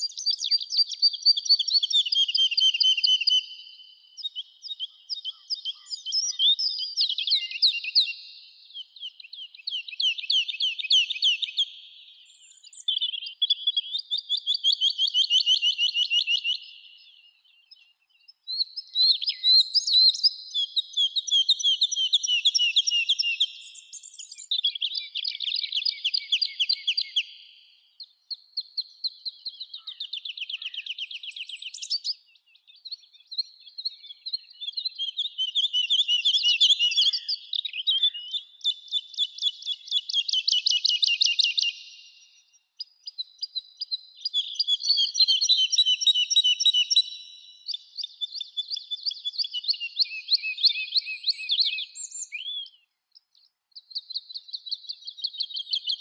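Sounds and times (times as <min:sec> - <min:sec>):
songbird trilling: 0:00.0 - 0:17.8, 0:18.5 - 0:27.5, 0:28.6 - 0:52.8.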